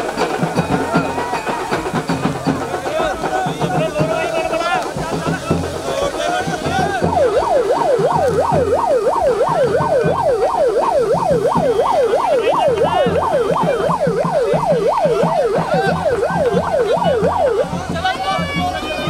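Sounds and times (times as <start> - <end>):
electronic siren yelping: 0.0 - 19.0.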